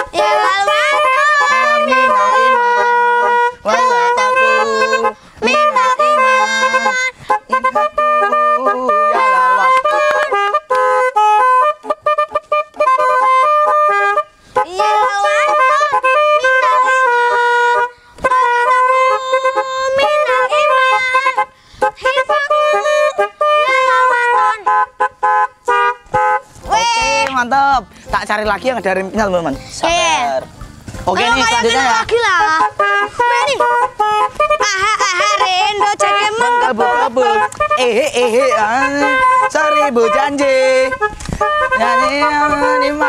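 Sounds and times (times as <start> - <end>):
musical air horn melody: 0.0 - 29.2, 31.1 - 43.0.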